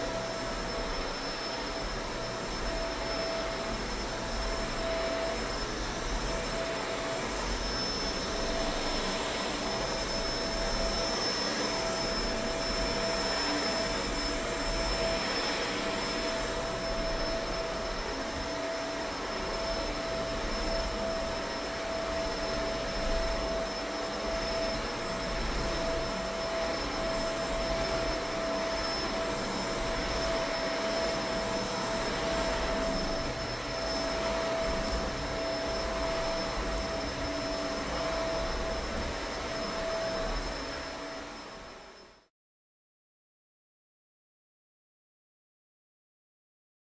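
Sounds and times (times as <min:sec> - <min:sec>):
vacuum cleaner running: 0:00.0 - 0:42.3.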